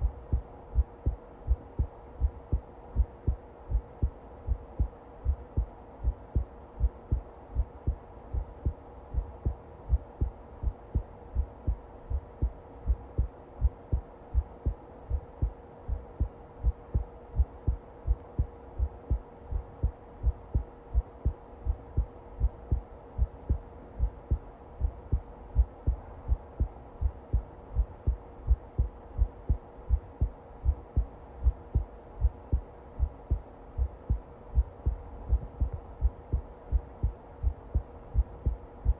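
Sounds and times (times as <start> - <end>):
faint steady hum: 0.0 - 38.9
heartbeat thumps: 0.0 - 38.9.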